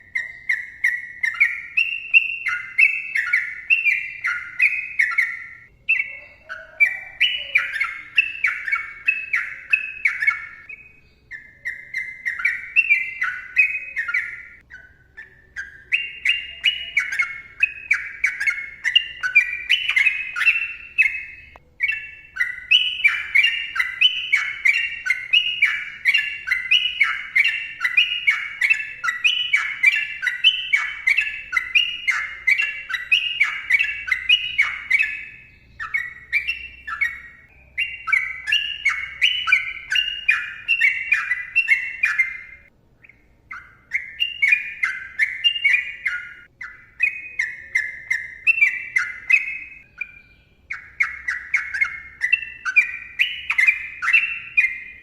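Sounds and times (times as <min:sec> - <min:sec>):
bird singing bubbling whistles: 0:00.0 - 0:55.0.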